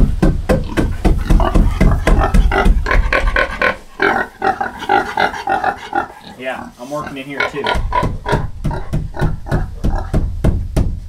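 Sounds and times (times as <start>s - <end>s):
pig grunting: 0.6s - 10.2s.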